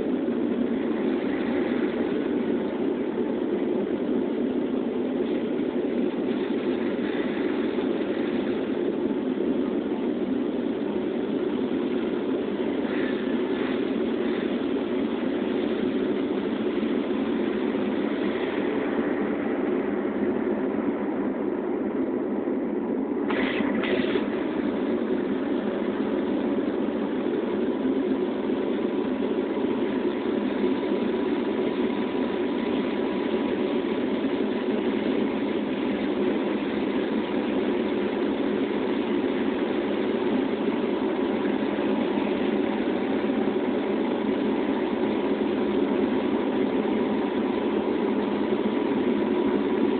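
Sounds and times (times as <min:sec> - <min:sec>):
airplane engine drone in cabin: 0:00.0 - 0:49.9
faint steady hum: 0:00.0 - 0:49.9.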